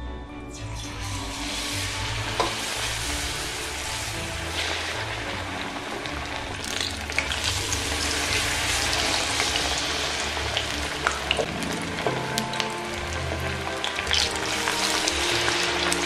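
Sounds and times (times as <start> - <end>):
chicken deep-frying in hot oil: 0.8 - 16.0.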